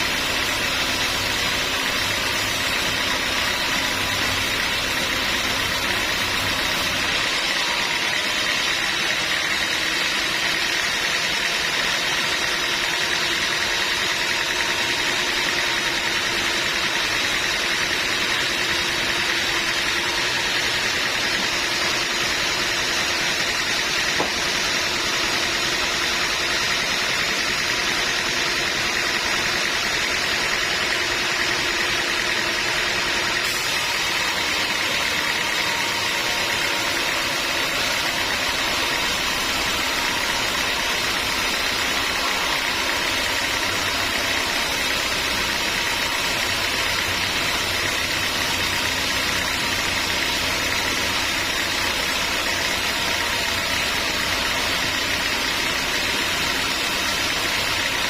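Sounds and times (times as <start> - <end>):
sawmill machinery hum: 0.0 - 58.0.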